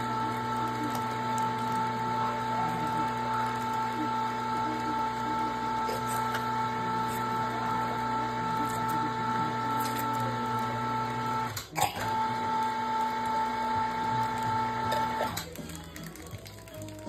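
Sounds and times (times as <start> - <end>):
meat grinder motor whine: 0.0 - 15.6.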